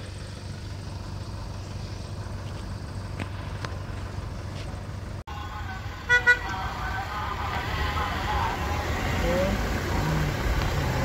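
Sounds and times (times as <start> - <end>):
car engine and traffic rumble: 0.0 - 11.0.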